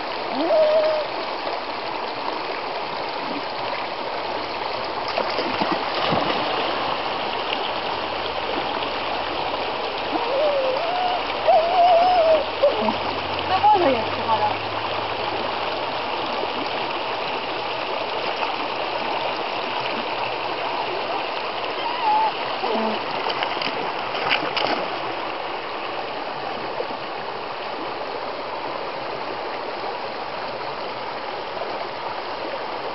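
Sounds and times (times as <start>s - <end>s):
water splashes: 0.0s - 27.9s
creek water running: 0.0s - 32.9s.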